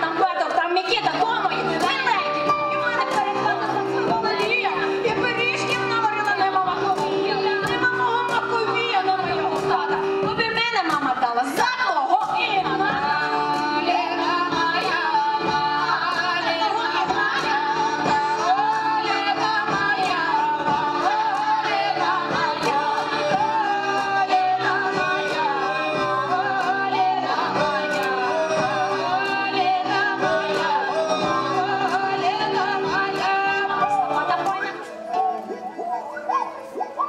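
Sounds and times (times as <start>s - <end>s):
women singing ornamented lines: 0.0s - 36.8s.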